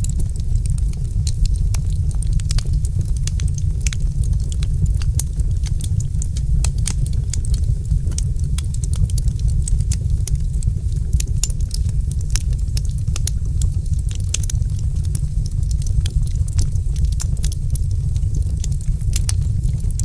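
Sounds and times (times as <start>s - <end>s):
low rumble: 0.0s - 20.0s
wood fire crackling: 0.0s - 20.0s.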